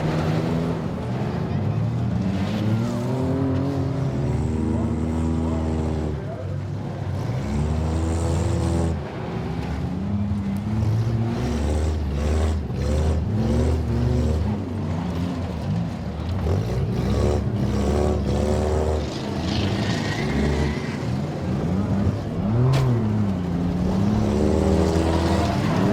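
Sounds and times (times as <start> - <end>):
car engines revving: 0.0 - 25.9
cars impacting: 0.0 - 25.9.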